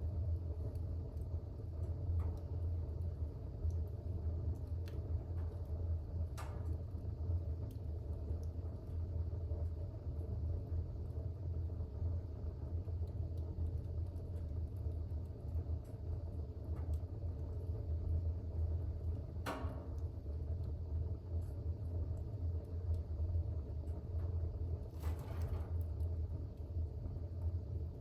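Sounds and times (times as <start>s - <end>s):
fire burning in a fireplace: 0.0s - 28.0s.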